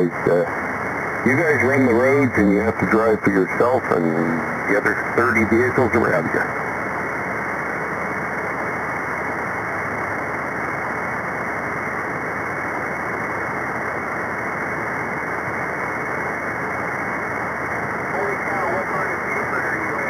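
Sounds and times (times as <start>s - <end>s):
muffled radio static hiss: 0.0s - 20.0s.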